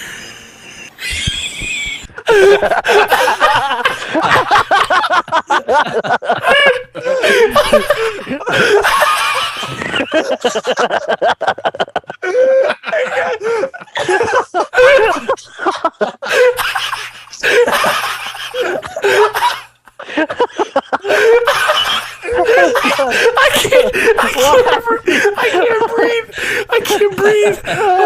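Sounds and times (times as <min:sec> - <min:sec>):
people laughing hard: 0:00.7 - 0:28.0.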